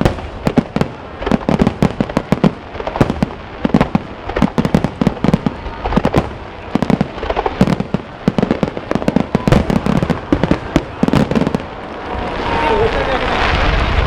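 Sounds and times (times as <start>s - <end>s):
fireworks bangs and pops: 0.0s - 14.0s.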